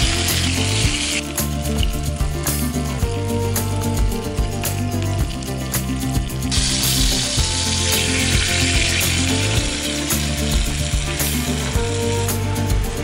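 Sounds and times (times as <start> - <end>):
background music: 0.0 - 13.0
food sizzling in a frying pan: 0.0 - 13.0.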